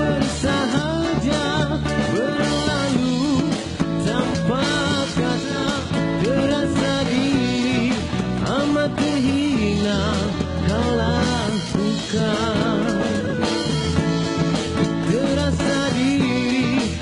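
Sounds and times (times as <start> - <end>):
pop ballad with band: 0.0 - 17.0.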